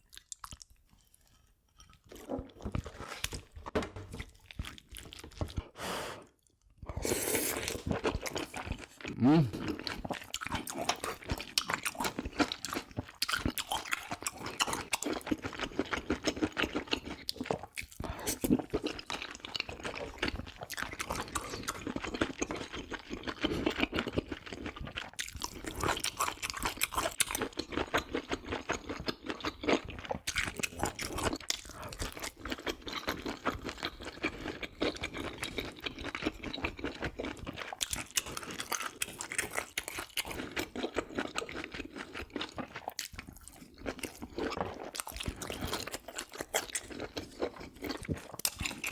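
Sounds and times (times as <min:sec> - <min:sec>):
close-miked chewing: 0:00.0 - 0:03.5, 0:04.4 - 0:48.9.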